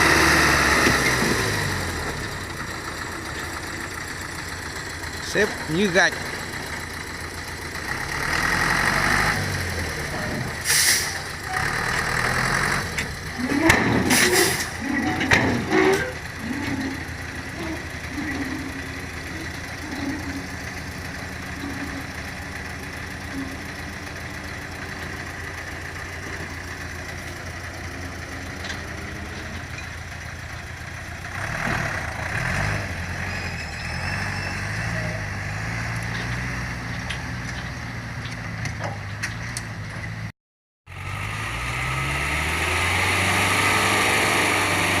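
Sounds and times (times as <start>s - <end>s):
heavy diesel engines running: 0.0s - 40.3s, 40.9s - 45.0s.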